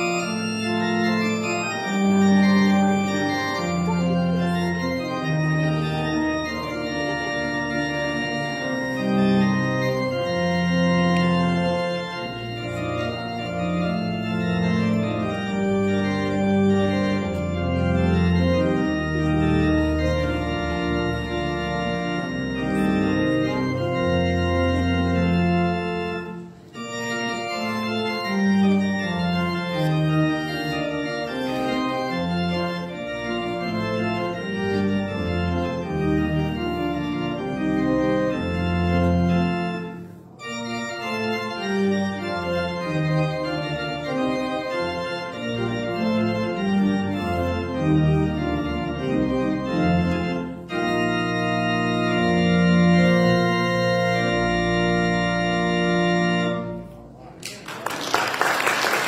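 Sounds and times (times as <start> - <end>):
church organ playing chords: 0.0 - 57.4.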